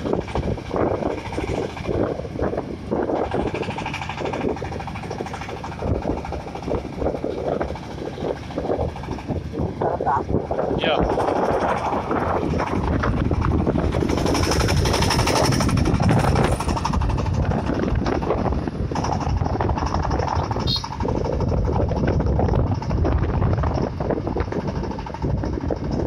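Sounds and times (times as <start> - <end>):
rumble of driving on road: 0.0 - 26.0
vehicle engines running: 0.0 - 26.0.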